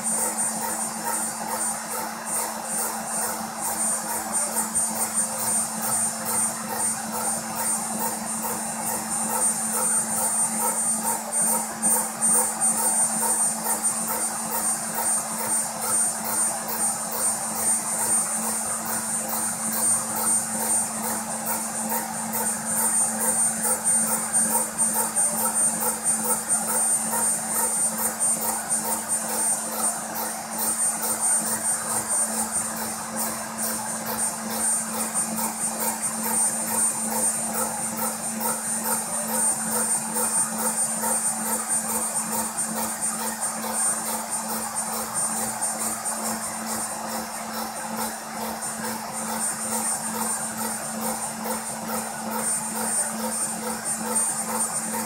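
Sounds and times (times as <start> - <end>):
pulsing rasp: 0.0 - 55.0.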